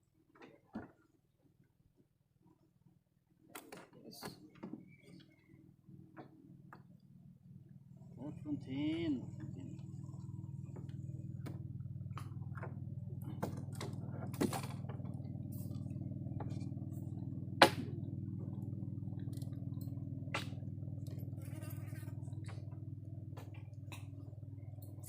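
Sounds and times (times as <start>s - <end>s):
steady low hum: 4.1s - 25.0s.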